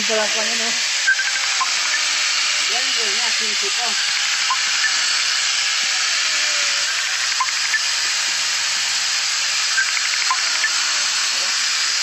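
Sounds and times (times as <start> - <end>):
small chainsaw cutting branch: 0.0 - 12.0.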